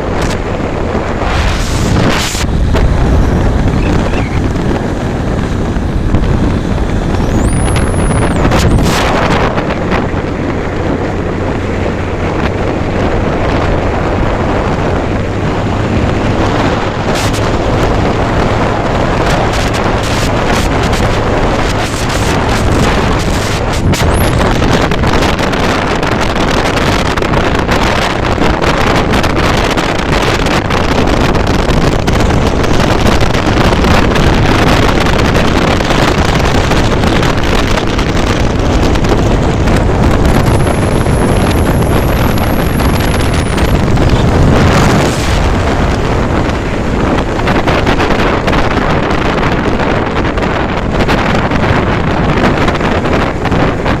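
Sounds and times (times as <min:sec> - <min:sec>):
motorcycle running: 0:00.0 - 0:54.0
wind buffeting microphone: 0:00.0 - 0:54.0.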